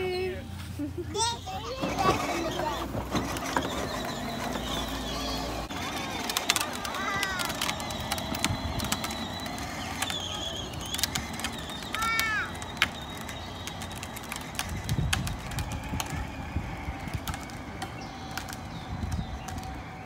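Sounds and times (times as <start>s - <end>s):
plastic wheels rolling on asphalt: 1.2s - 20.0s
rattles and clicks: 1.7s - 20.0s.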